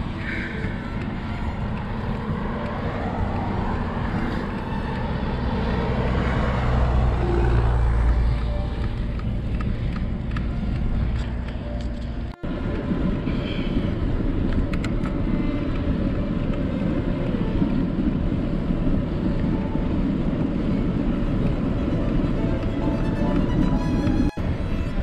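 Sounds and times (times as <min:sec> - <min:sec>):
bicycle tyre and road noise: 0:00.0 - 0:25.0
wind on microphone: 0:00.0 - 0:25.0.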